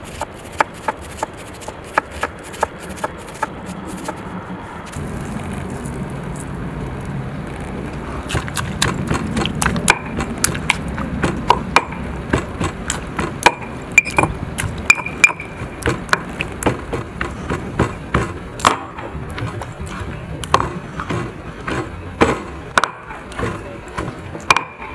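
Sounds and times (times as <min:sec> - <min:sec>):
pestle pounding in stone mortar: 0:00.0 - 0:04.2, 0:08.3 - 0:19.6, 0:20.4 - 0:24.9.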